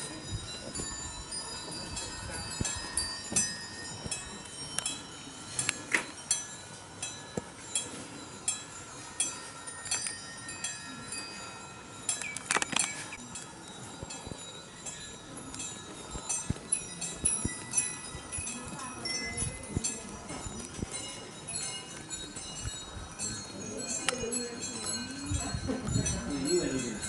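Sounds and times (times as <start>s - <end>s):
small bells tinkling: 0.0s - 27.0s.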